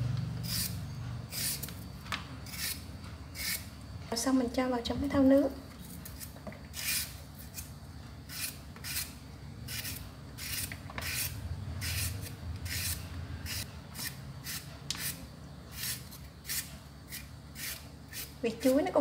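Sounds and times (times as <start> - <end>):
peeler scraping banana skin: 0.4 - 3.7, 5.8 - 19.0.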